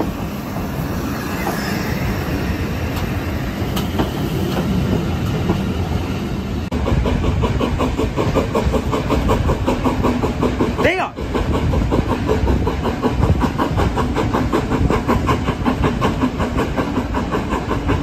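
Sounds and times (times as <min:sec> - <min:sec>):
locomotive wheels rumbling past: 0:00.0 - 0:18.0
train wheels clickety-clack: 0:00.0 - 0:18.0.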